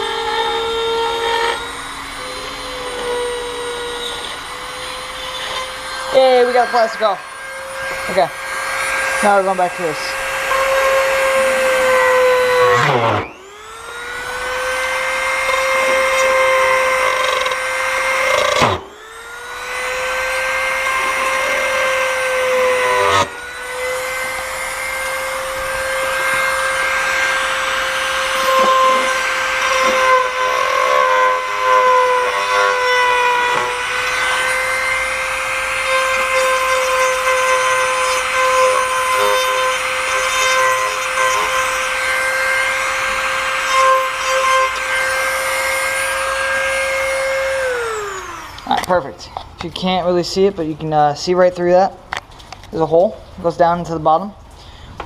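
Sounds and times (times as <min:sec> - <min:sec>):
electric drill boring plastic: 0:00.0 - 0:49.0.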